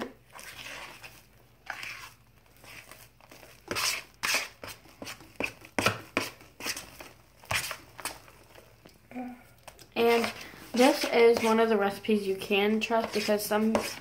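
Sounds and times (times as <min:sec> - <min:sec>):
slime squishing in a bowl: 0:00.0 - 0:14.0.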